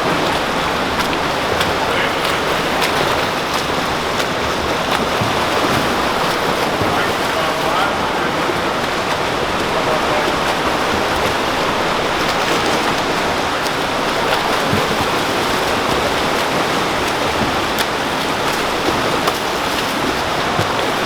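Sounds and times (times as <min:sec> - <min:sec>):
pool water splashing: 0:00.0 - 0:21.0.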